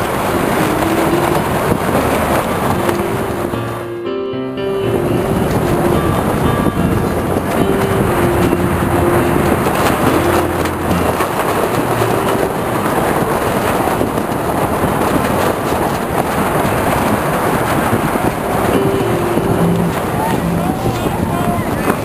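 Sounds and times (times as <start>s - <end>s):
rush of choppy water: 0.0s - 3.9s, 4.7s - 22.0s
wind buffeting microphone: 0.0s - 3.9s, 4.6s - 22.0s.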